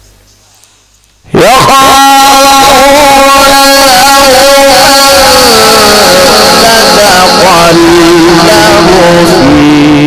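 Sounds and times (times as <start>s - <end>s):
man reciting melodically: 1.3s - 10.0s.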